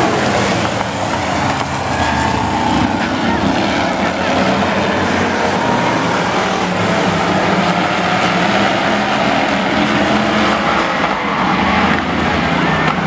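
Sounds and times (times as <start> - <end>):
truck engines racing: 0.0 - 13.0.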